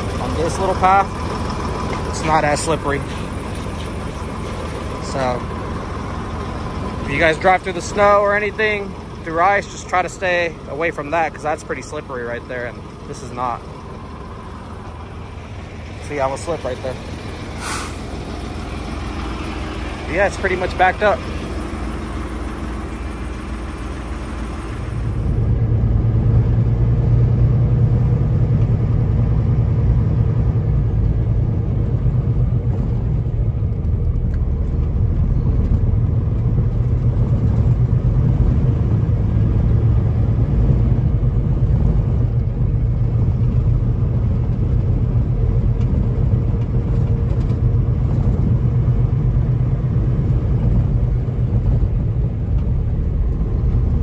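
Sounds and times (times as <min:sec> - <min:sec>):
truck diesel engine rumble: 0:00.0 - 0:54.0.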